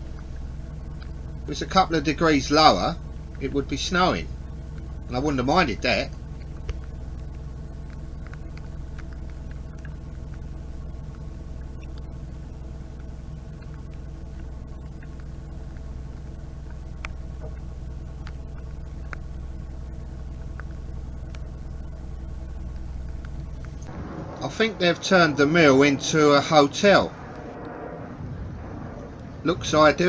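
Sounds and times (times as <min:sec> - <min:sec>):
raindrops ticking on camera: 0:00.0 - 0:25.1
diesel engine droning: 0:00.0 - 0:30.0.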